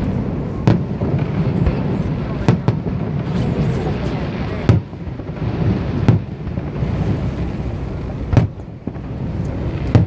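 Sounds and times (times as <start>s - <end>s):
firework shells booming: 0.0s - 10.0s.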